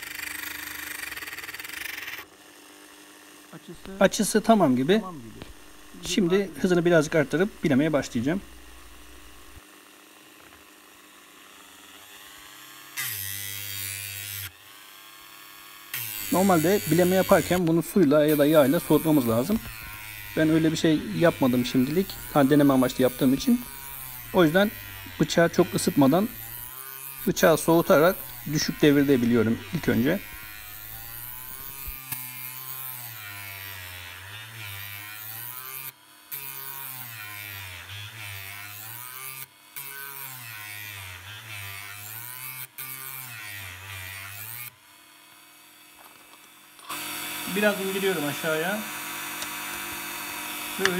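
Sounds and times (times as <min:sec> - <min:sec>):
rotary tool running: 0:00.0 - 0:50.9.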